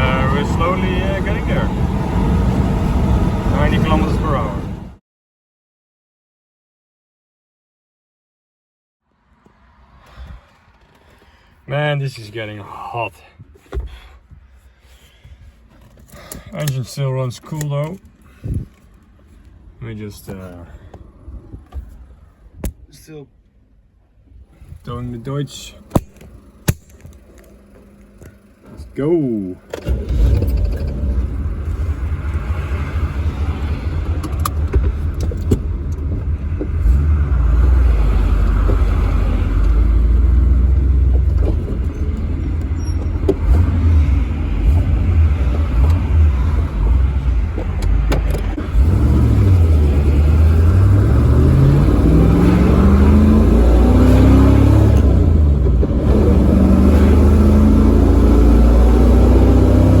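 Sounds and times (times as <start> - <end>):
engine rumbling under load: 0.0 - 5.0, 9.2 - 60.0.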